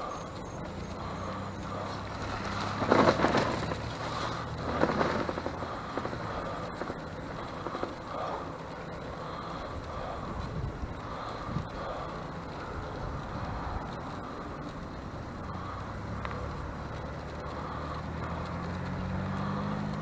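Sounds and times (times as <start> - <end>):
low road noise: 0.0 - 20.0
rattling clatter: 0.2 - 20.0.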